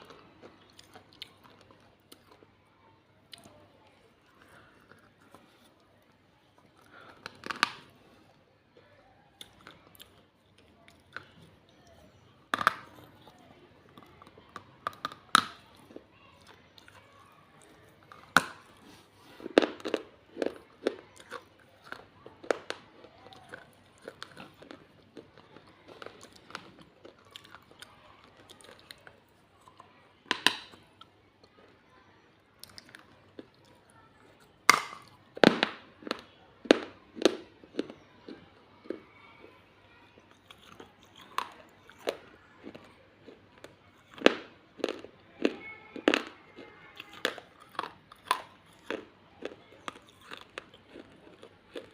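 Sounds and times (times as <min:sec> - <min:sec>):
brittle crunches of chewing clay: 0:00.0 - 0:51.9
quiet grinding chews: 0:00.0 - 0:51.9.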